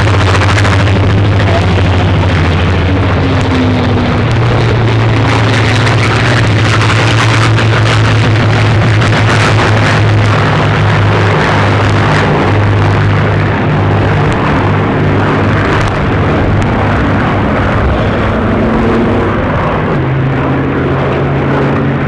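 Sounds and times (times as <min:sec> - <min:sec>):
propeller planes droning overhead: 0:00.0 - 0:22.0.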